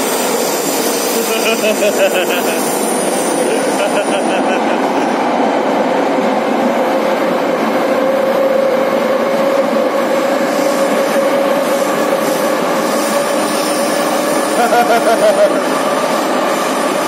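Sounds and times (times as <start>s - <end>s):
metro train wheels rumbling on rails: 0.0s - 17.0s
train whine: 0.0s - 17.0s.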